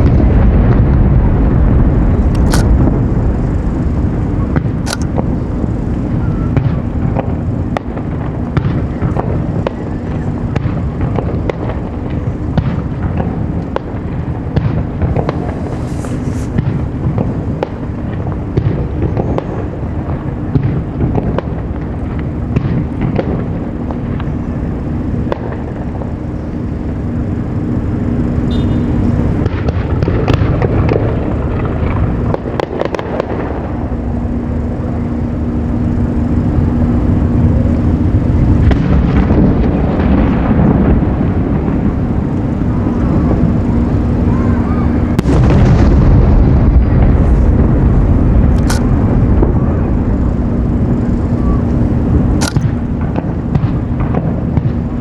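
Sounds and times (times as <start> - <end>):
dense rolling rumble: 0.0 - 55.0
steady low hum: 0.0 - 55.0.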